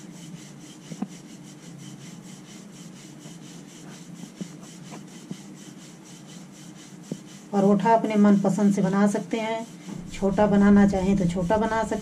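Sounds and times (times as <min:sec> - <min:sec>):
rolling pin rubbing on board: 0:00.0 - 0:12.0.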